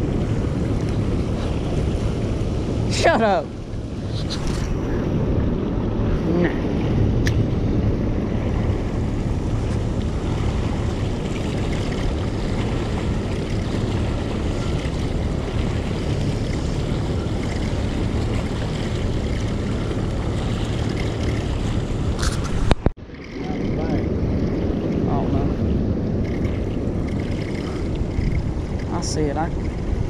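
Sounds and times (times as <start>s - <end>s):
outboard motor running: 0.0s - 30.0s
water rushing along boat: 0.0s - 30.0s
wind buffeting microphone: 0.0s - 30.0s.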